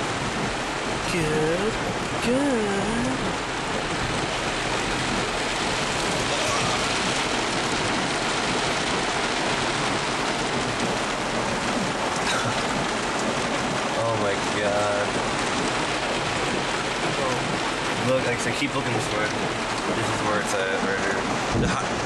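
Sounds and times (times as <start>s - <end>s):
heavy rain on car roof: 0.0s - 22.0s.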